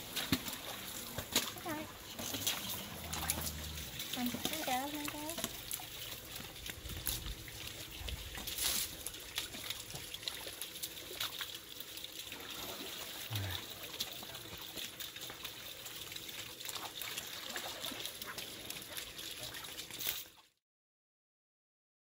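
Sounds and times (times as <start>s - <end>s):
water trickling and splashing: 0.0s - 20.6s.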